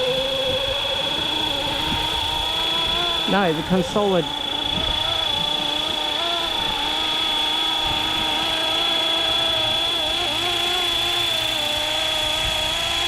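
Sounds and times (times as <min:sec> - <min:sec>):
rc helicopter hovering: 0:00.0 - 0:13.0.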